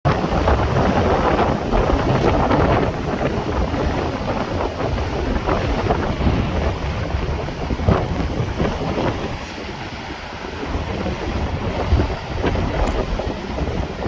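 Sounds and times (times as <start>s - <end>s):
stream rushing with splashes: 0.1s - 14.0s.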